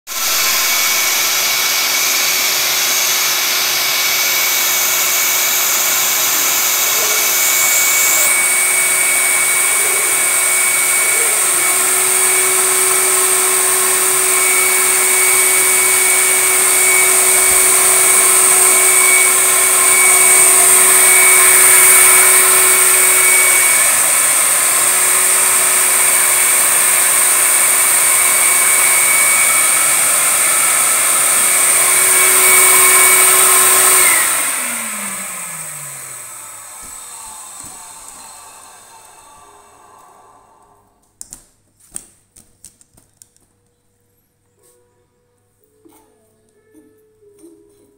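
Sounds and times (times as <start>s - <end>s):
vacuum cleaner motor whining: 0.1s - 41.0s.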